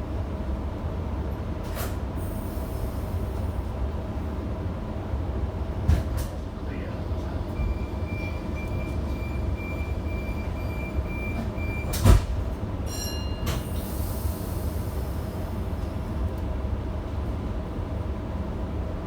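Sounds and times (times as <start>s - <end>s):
train carriage rumble: 0.0s - 19.0s.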